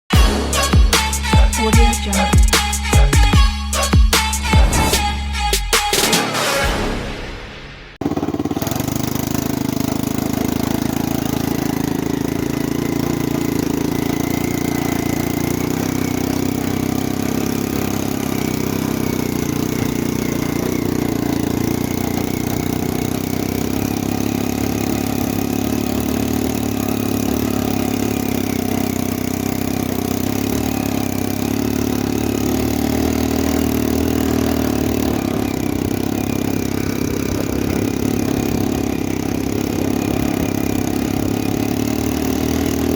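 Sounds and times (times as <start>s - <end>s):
quad bike engine idling: 0.1s - 6.2s, 8.0s - 42.9s.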